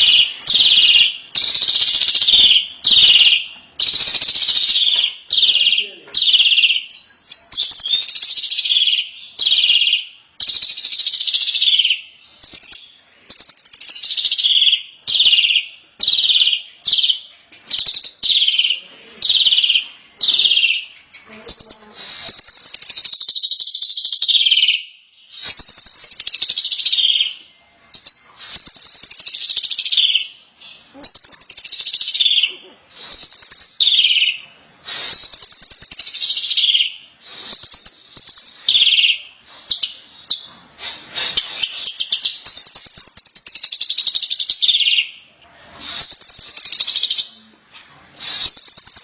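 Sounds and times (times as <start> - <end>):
myna whistling and chattering: 0.0 - 24.8, 25.4 - 45.1, 45.8 - 47.5, 48.2 - 49.0.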